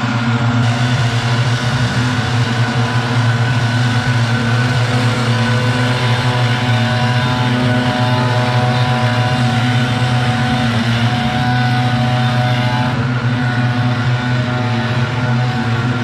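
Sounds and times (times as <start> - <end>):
leaf blowers running: 0.0 - 16.0.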